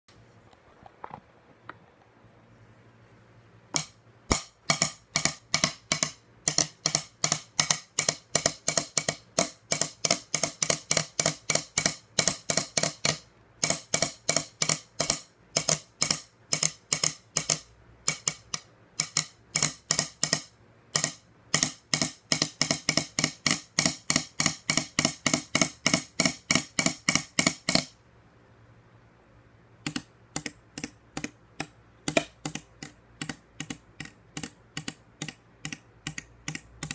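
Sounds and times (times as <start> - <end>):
drumstick tapping on tabletop: 3.7 - 28.0, 29.8 - 36.9.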